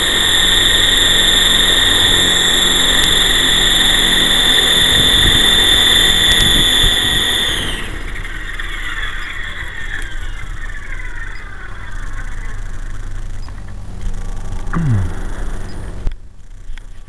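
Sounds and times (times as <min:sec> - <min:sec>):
electric motors whining: 0:00.0 - 0:17.0
helicopter rotor noise: 0:00.0 - 0:17.0.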